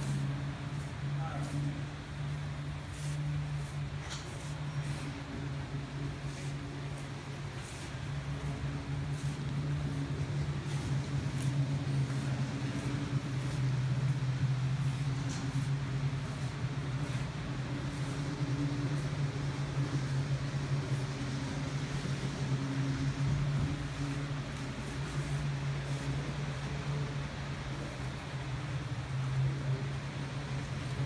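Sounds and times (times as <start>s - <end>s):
model train motor humming: 0.0s - 31.0s.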